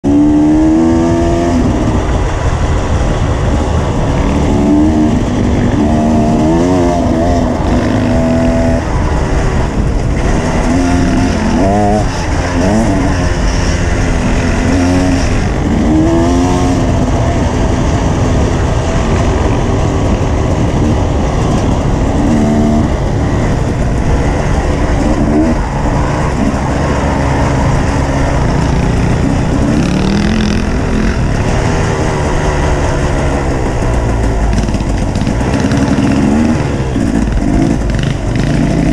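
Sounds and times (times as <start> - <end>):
off-road motorcycle engine revving: 0.0 - 38.9
wind noise on microphone: 0.0 - 38.9.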